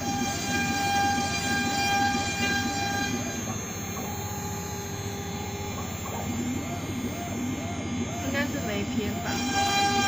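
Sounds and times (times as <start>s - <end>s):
rumbling chattering cutting noise: 0.0s - 10.0s
wood router spindle whine: 0.0s - 10.0s.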